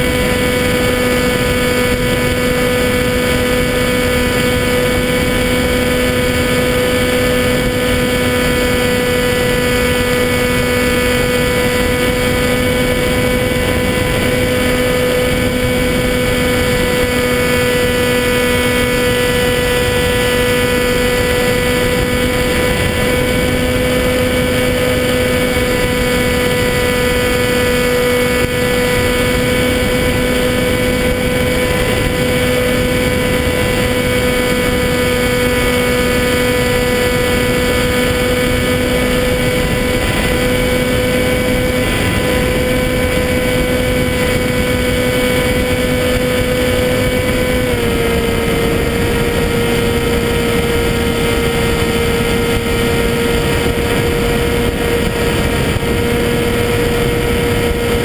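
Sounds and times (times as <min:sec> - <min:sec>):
electric motor and propeller whine: 0:00.0 - 0:58.0
rushing wind: 0:00.0 - 0:58.0.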